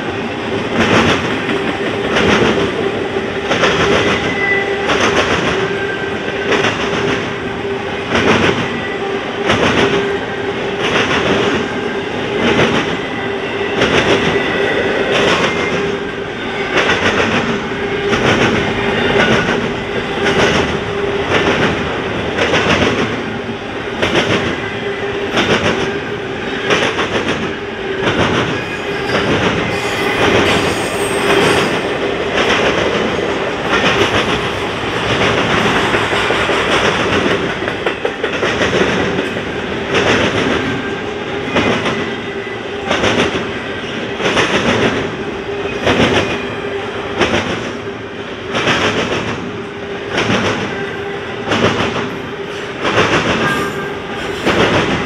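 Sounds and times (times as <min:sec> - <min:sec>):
train wheels clattering on track: 0:00.0 - 0:55.0.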